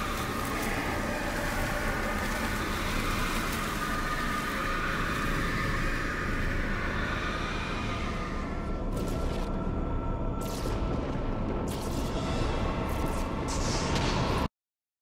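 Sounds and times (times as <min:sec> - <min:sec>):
low rumbling drone: 0:00.0 - 0:14.5.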